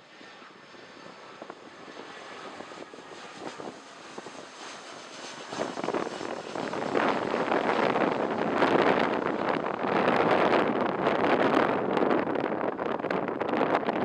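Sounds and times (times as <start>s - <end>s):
wind buffeting microphone: 0.2s - 14.0s.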